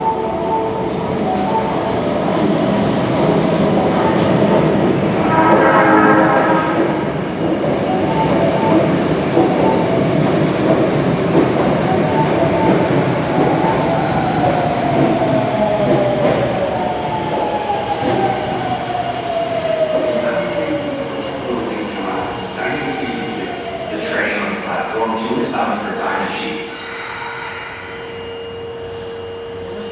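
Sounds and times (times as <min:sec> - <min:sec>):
subway train wheels rumbling: 0:00.0 - 0:29.9.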